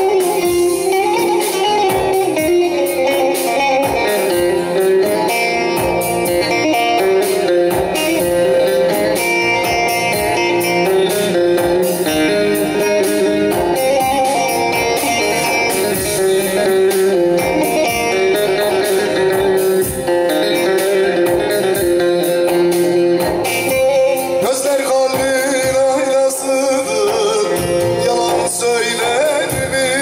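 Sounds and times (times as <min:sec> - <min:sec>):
plucked long-necked lute: 0:00.0 - 0:26.5.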